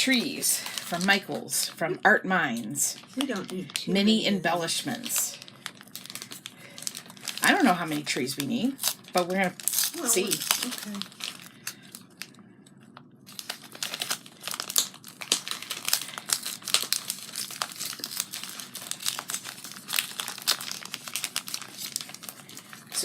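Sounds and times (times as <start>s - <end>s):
plastic packaging crinkling: 0.0s - 1.8s, 2.4s - 23.0s.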